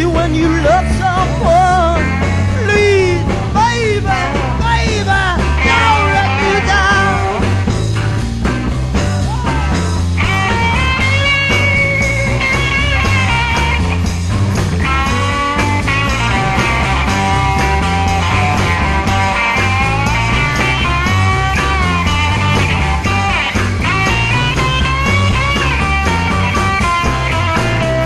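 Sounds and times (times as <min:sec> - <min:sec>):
rock band playing: 0:00.0 - 0:28.0
sliding lead guitar melody: 0:00.0 - 0:28.0.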